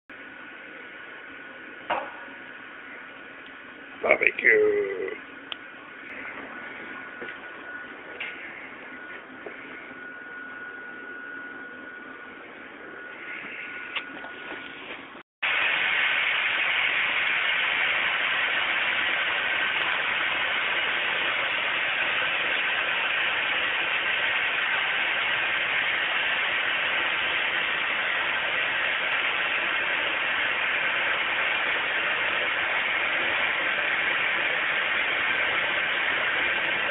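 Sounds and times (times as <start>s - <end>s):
canister venting gas hiss: 0.2s - 10.0s, 13.0s - 36.9s.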